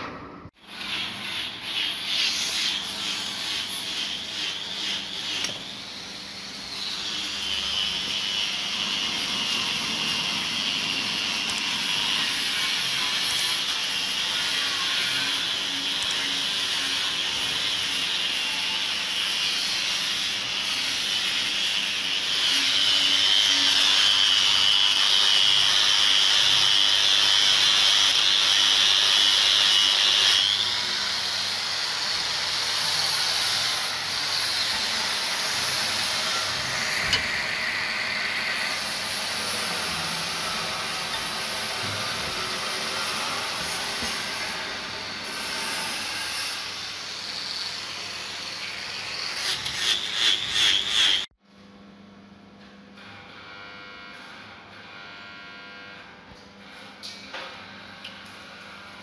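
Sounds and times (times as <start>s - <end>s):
power grinder abrasive hiss: 0.6s - 51.2s.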